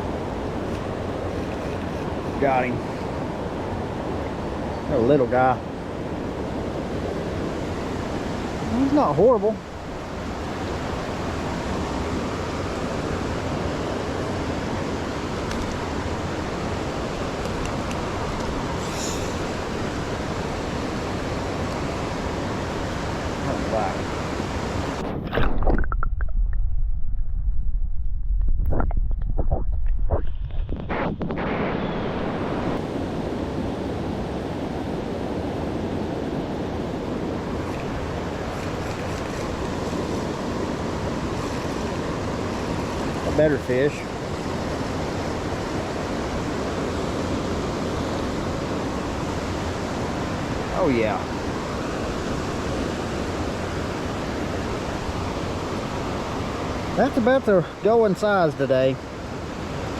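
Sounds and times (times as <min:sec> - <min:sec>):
creek water rushing: 0:00.0 - 0:25.5, 0:32.1 - 0:59.9.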